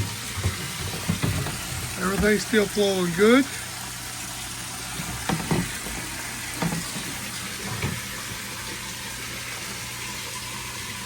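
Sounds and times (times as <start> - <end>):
water flowing and splashing: 0.0 - 11.0.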